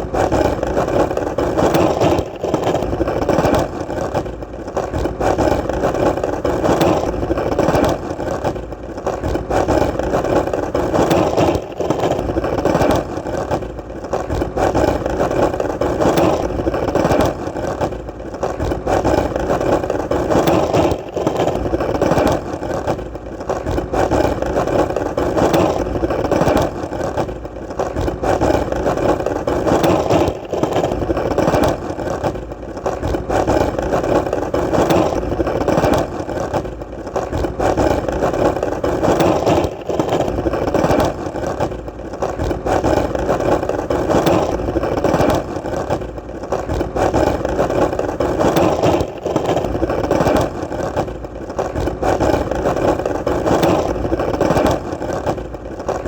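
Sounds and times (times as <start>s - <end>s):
skateboard wheels rolling: 0.0s - 56.0s.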